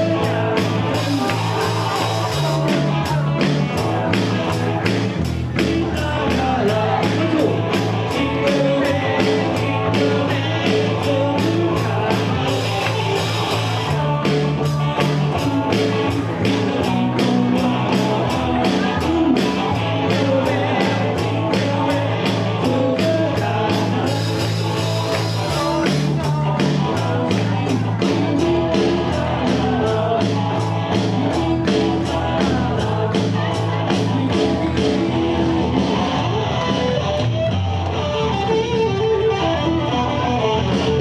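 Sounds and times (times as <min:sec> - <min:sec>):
person singing: 0:00.0 - 0:36.9
steady drum beat: 0:00.0 - 0:37.5
live band playing upbeat song: 0:00.0 - 0:41.0.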